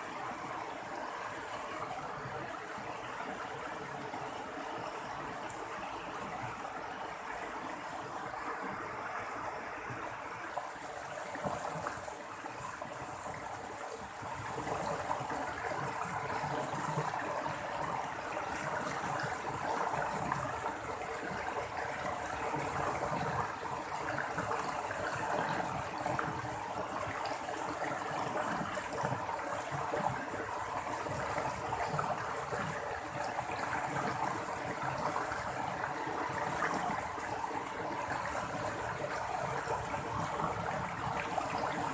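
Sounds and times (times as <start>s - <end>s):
stream babbling over stones: 0.0s - 41.9s.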